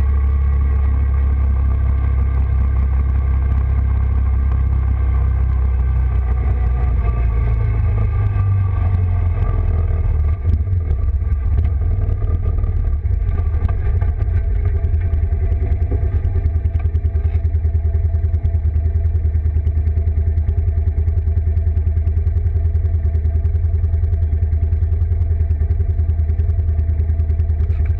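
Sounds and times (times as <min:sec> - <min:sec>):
quad bike engine: 0:00.0 - 0:27.9.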